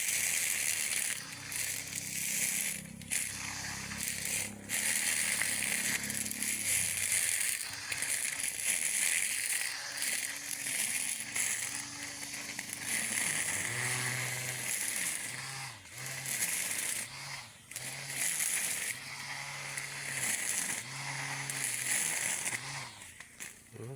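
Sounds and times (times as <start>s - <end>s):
electric lawn mower cutting grass: 0.0s - 23.9s.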